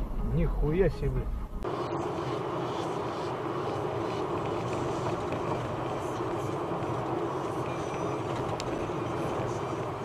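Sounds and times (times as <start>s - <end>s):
car road noise from inside cabin: 0.2s - 10.0s.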